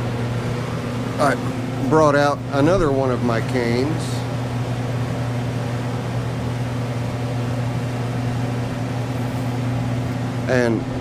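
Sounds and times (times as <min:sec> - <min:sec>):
heater humming with fan rush: 0:00.0 - 0:11.0.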